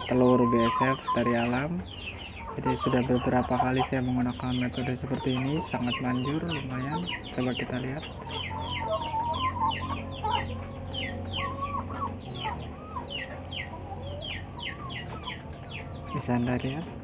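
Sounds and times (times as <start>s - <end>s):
chickens clucking: 0.0s - 17.0s
chicks peeping: 0.0s - 17.0s.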